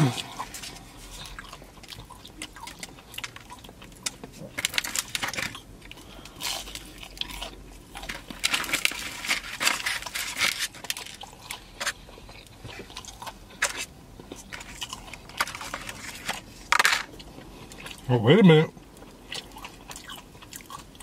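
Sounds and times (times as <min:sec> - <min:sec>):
person chewing crunchy food: 0:00.0 - 0:18.1, 0:18.7 - 0:21.0.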